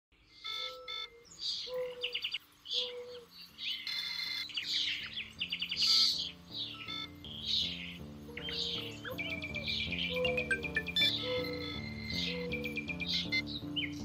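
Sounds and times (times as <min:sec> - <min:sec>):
birds chirping and trilling: 0:00.2 - 0:14.0
soft slow music: 0:01.1 - 0:14.0.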